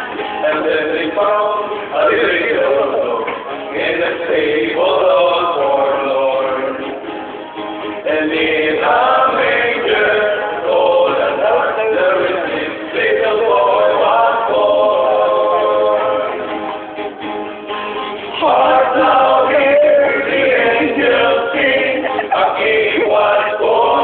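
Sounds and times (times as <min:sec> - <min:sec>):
male voices singing together: 0:00.0 - 0:07.0, 0:08.0 - 0:16.5, 0:18.3 - 0:24.0.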